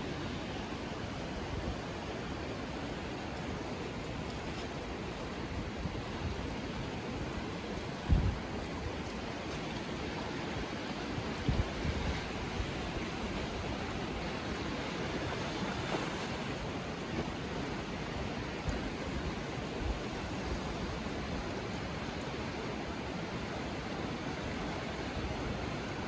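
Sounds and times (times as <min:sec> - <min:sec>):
wind rumbling on microphone: 0:00.0 - 0:23.4
sea surf: 0:00.0 - 0:26.0.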